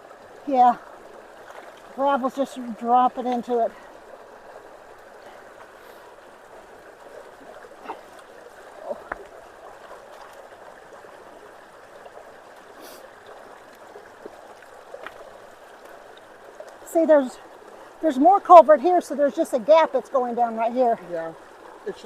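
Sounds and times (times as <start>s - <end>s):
water running through culvert: 0.0s - 22.0s.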